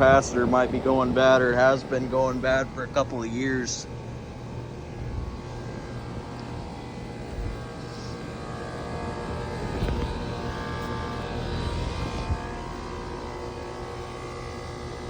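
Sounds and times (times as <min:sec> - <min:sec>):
compressor and fan hum: 0:00.0 - 0:15.0.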